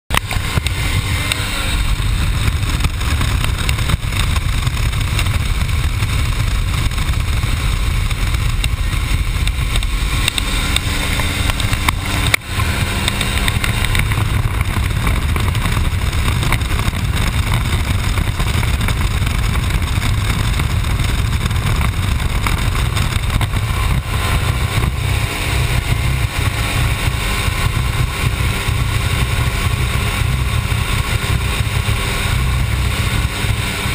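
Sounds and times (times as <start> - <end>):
light aircraft engine and propeller: 0.1 - 33.9
rushing wind: 0.1 - 33.9.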